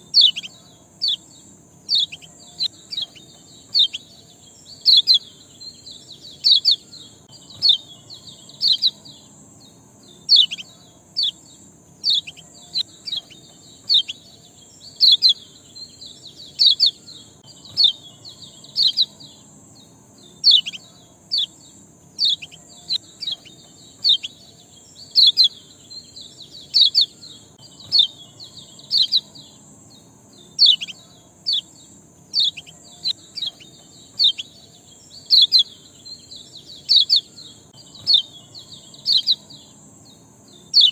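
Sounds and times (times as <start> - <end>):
songbird chirping: 0.0 - 40.9
steady high hiss: 0.0 - 40.9.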